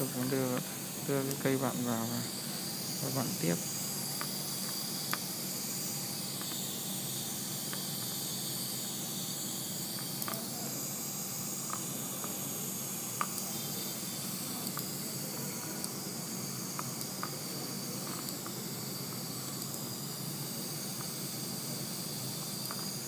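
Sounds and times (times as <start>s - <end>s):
dental suction hissing: 0.0s - 23.0s.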